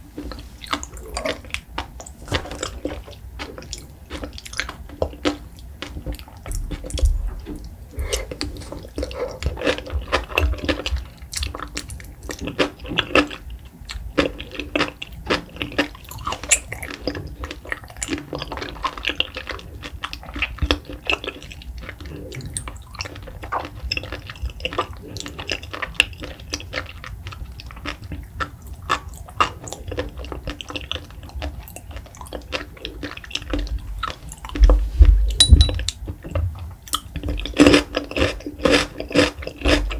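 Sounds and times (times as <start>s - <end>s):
wet chewing: 0.2s - 34.8s.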